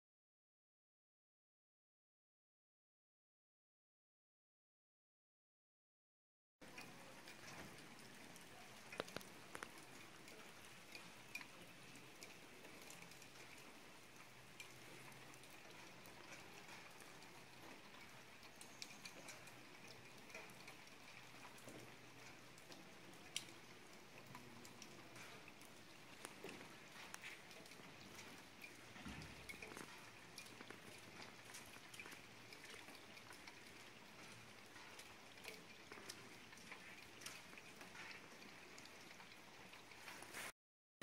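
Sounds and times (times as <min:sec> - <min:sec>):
meltwater dripping: 0:06.6 - 0:40.5
small clicks: 0:06.7 - 0:40.4.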